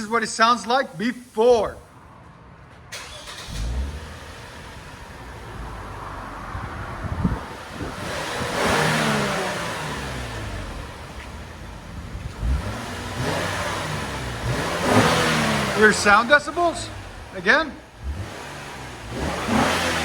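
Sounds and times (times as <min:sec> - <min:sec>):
car engine idling and revving: 0:02.6 - 0:20.0.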